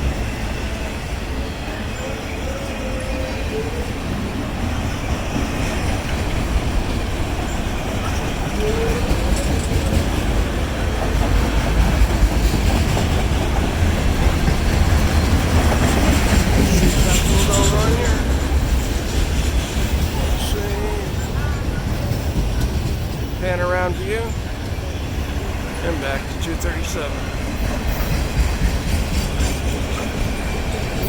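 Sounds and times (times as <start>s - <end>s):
freight train wheels clattering: 0.0s - 31.0s.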